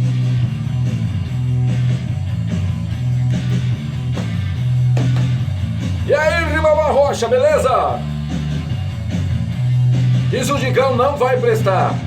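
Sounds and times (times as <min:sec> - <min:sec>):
bass line: 0:00.0 - 0:12.0
steady drum beat: 0:00.0 - 0:12.0.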